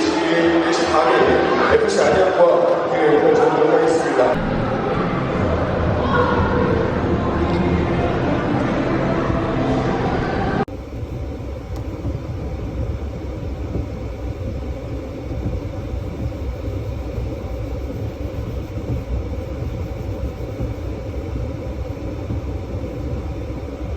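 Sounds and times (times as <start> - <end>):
steady low rumbling: 4.2 - 23.9.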